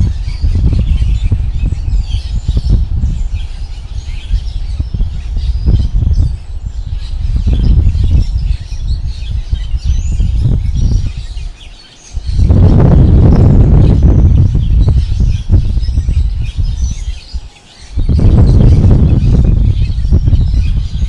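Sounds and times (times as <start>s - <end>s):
faint bird chirps: 0.0s - 21.0s
gusty wind buffeting microphone: 0.0s - 21.0s.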